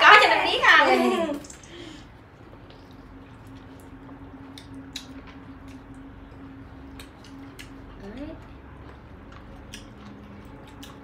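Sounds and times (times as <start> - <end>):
steady low hum: 0.0 - 11.0
wet mouth eating sounds: 1.4 - 11.0.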